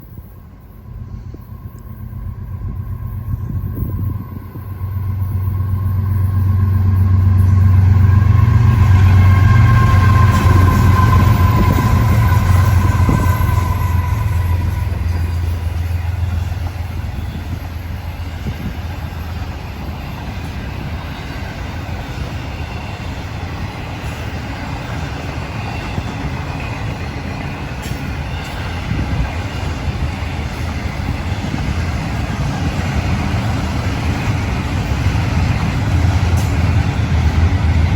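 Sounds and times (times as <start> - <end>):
diesel locomotives passing: 0.0 - 37.9
train cars rumbling on rails: 0.0 - 37.9.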